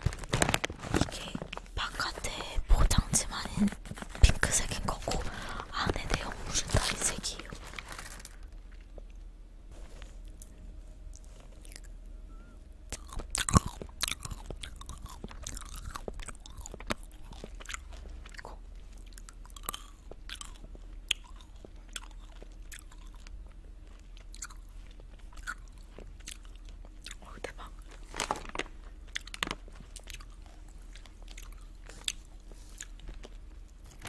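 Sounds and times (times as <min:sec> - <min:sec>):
hard candies crunched and chewed: 0:00.0 - 0:09.2, 0:10.2 - 0:11.9, 0:12.9 - 0:34.0.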